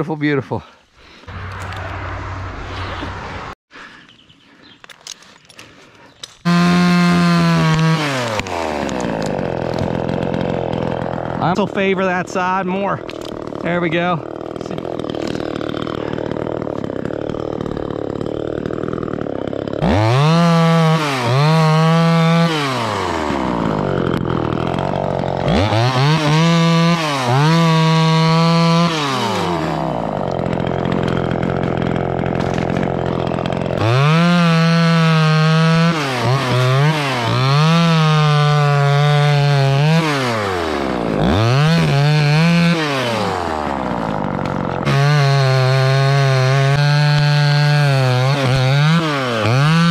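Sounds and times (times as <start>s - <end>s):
chainsaw idling: 5.1s - 49.9s
chainsaw at full throttle: 5.6s - 49.9s.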